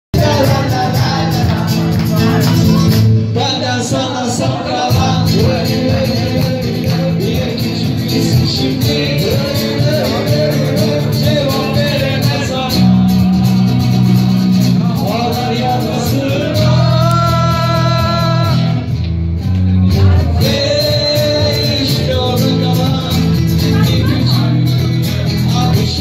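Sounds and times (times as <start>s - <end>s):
man singing: 0.1s - 19.0s, 19.7s - 26.0s
acoustic guitar: 0.1s - 26.0s.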